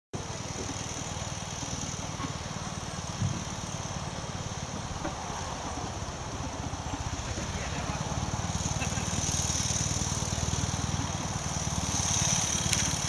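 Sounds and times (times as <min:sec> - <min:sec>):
motorcycle engine idling: 0:00.2 - 0:13.0.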